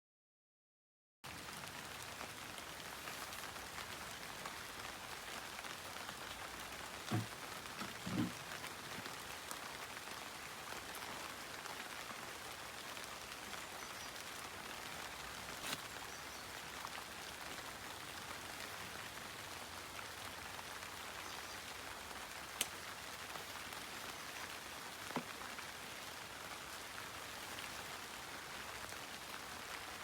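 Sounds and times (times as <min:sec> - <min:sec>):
steady rain falling: 0:01.3 - 0:30.0.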